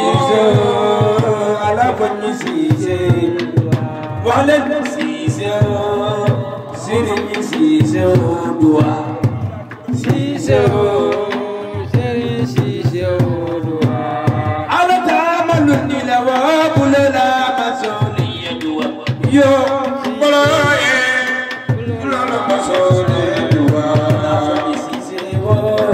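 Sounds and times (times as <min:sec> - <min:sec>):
man singing through sound system: 0:00.0 - 0:25.9
steady drum beat: 0:00.0 - 0:25.9.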